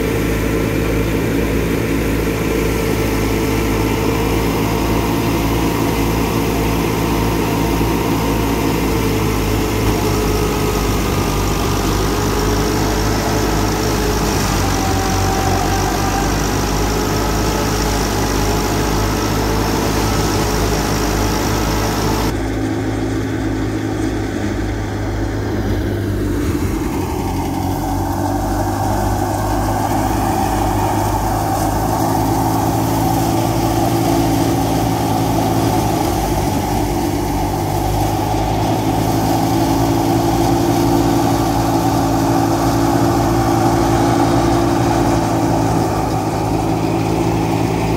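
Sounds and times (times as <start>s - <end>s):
thresher machinery running: 0.0s - 47.9s
tractor diesel engine running: 0.0s - 47.9s.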